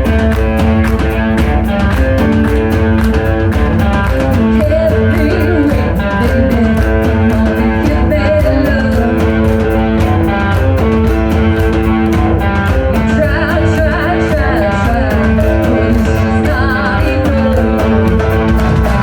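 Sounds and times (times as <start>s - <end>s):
bass guitar: 0.0s - 19.0s
electric guitar: 0.0s - 19.0s
steady drum beat: 0.0s - 19.0s.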